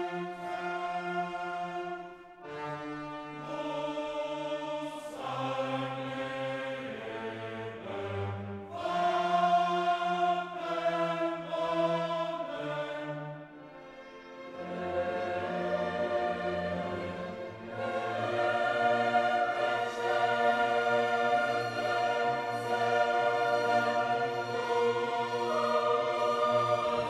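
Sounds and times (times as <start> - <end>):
slow orchestral music: 0.0 - 27.0.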